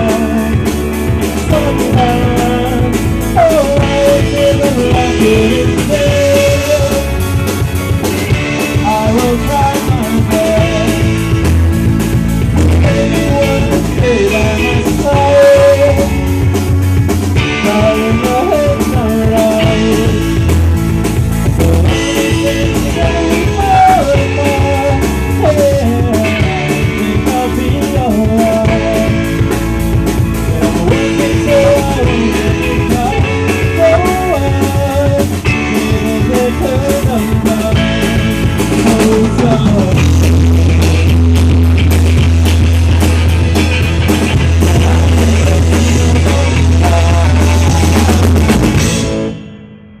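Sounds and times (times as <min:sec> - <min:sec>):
rock band playing live: 0:00.0 - 0:50.0.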